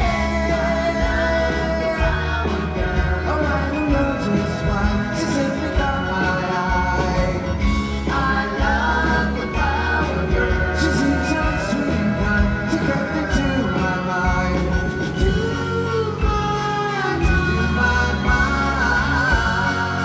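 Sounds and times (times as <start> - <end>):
electric guitars: 0.0 - 20.0
person singing: 0.0 - 20.0
steady bass: 0.0 - 20.0.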